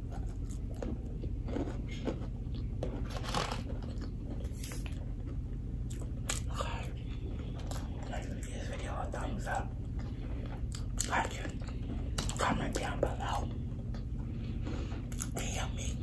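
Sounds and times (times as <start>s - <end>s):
chewing crispy food: 0.0s - 16.0s
steady low hum: 0.0s - 16.0s.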